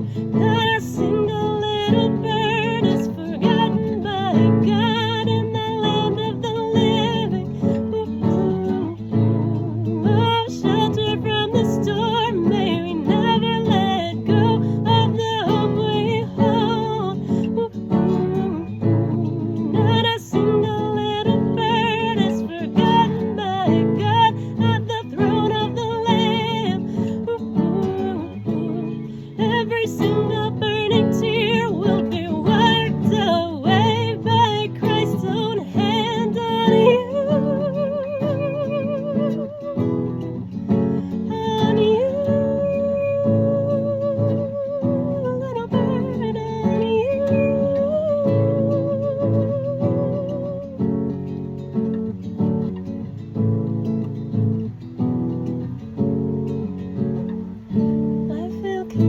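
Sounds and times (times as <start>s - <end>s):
wavering melody with vibrato: 0.0s - 51.0s
acoustic guitar accompaniment: 0.0s - 59.0s.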